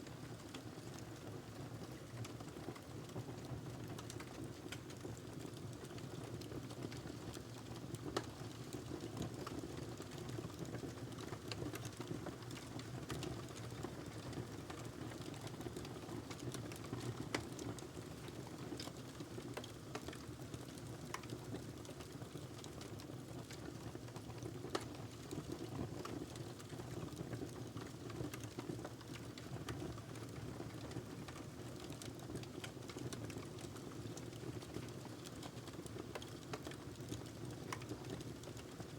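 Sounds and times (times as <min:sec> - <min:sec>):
wood fire crackling and popping: 0:00.4 - 0:38.9.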